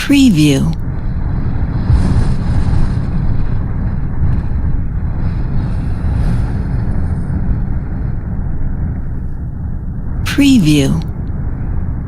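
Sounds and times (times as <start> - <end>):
hurricane wind blowing: 0.8 - 12.0.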